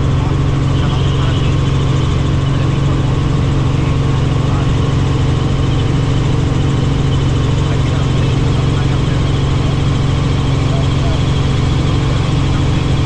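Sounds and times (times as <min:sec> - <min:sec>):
helicopter engine and rotors: 0:00.0 - 0:13.0.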